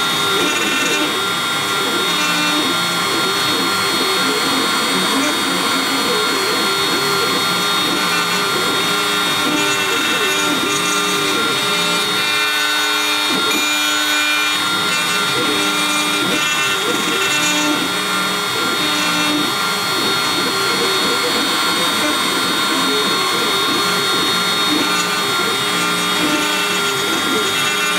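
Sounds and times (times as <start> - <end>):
router cutting wood: 0.0 - 27.9
router spindle whine: 0.0 - 27.9
stepper motors gliding tones: 0.0 - 27.9.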